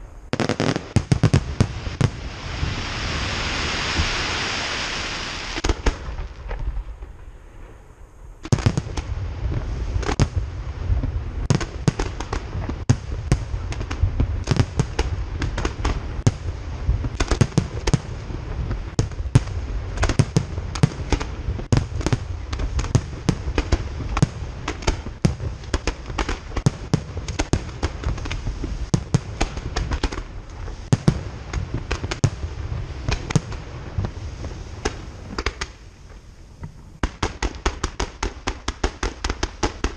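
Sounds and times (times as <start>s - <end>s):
crackling hiss: 0.0s - 39.9s
fireworks bursting: 0.0s - 39.9s.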